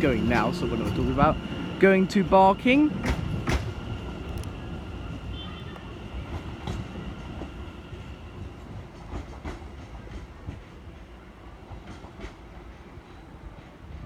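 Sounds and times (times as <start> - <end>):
train wheels clicking over rail joints: 0.0 - 5.3, 6.3 - 11.1, 11.7 - 14.0
electric train rumbling: 0.0 - 14.0.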